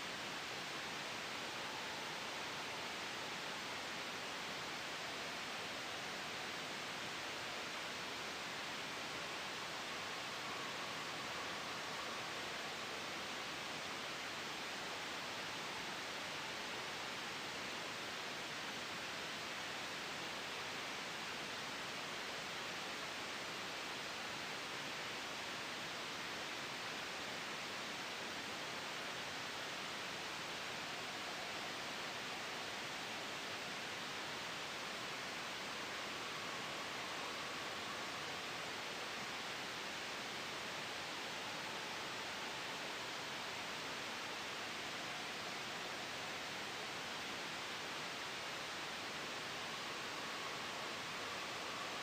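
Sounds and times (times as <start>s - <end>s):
white noise hiss: 0.0s - 52.0s.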